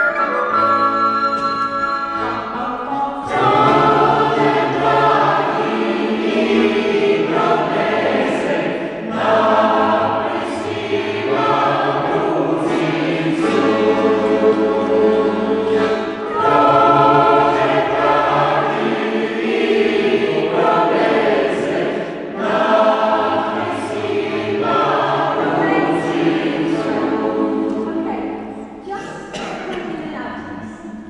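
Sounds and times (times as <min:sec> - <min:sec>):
sustained instrumental notes: 0:00.0 - 0:28.9
mixed choir singing: 0:02.0 - 0:31.0.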